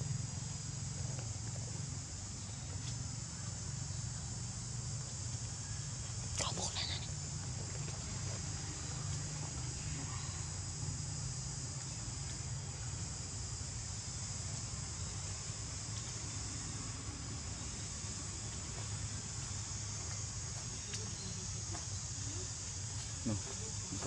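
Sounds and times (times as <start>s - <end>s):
insects droning high-pitched: 0.0s - 24.0s.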